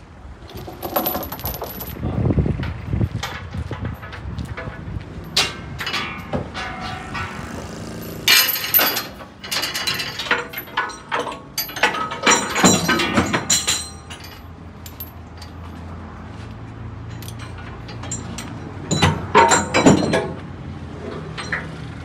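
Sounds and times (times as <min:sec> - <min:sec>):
steel chain clanking and rattling: 0:00.4 - 0:21.9.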